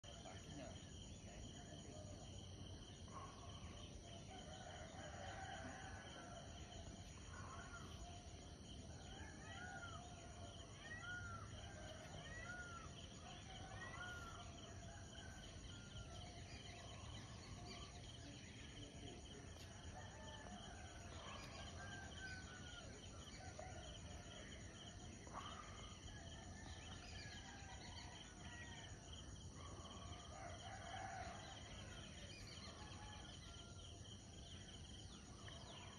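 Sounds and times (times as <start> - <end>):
high insect hum: 0.0 - 35.9.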